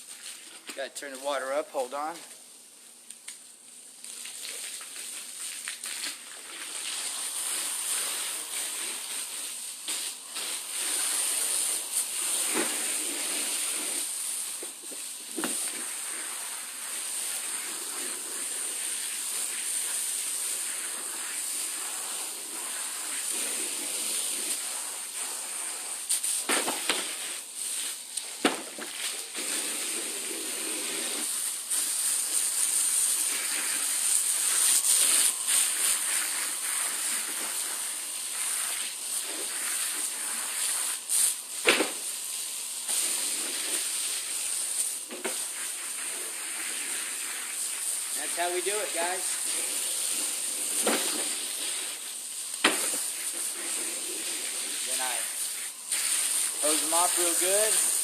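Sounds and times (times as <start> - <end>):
hose spraying water on mats: 0.0 - 58.0.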